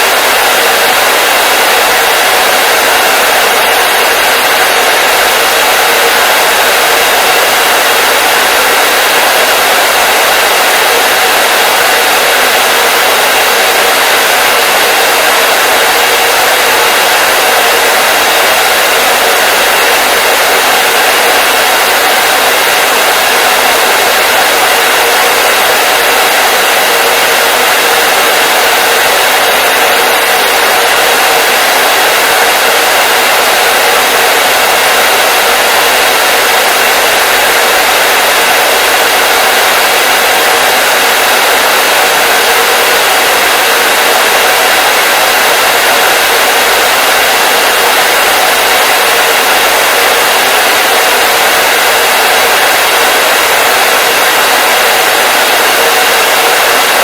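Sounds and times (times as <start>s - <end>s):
hair dryer blowing air: 0.0s - 57.0s.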